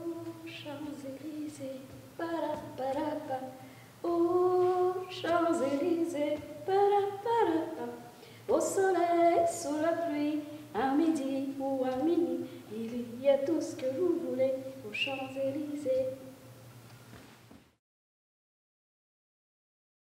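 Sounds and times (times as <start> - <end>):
woman singing unaccompanied: 0.0 - 16.4.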